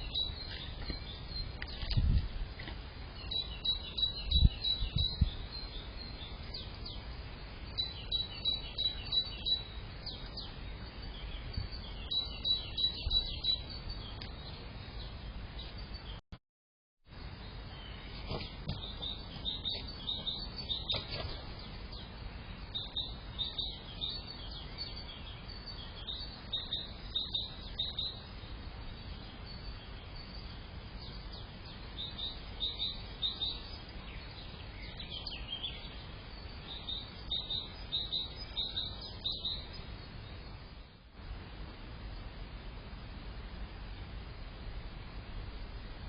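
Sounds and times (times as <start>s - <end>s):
small birds chirping: 0.0s - 16.2s, 17.2s - 41.1s
steady background hiss: 0.0s - 16.2s, 17.1s - 46.0s.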